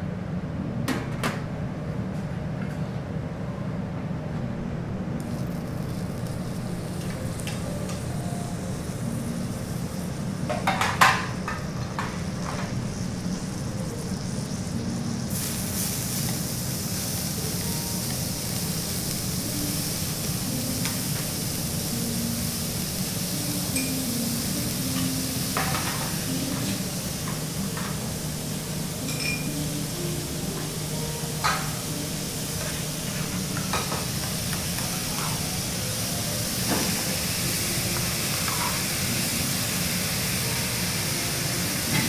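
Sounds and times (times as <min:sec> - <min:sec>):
fat sizzling on griddle: 0:05.2 - 0:42.0.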